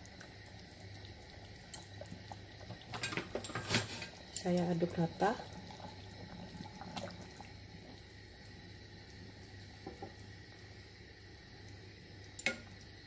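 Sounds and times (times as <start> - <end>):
faint hum: 0.0 - 13.0
sauce simmering hiss: 0.0 - 13.0.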